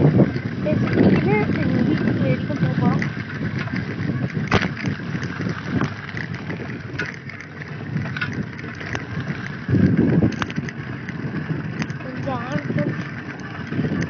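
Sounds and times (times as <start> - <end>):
bicycle rolling over dirt road: 0.0 - 14.0
bike clicks and rattles: 0.0 - 14.0
wind rumbling on microphone: 0.0 - 14.0.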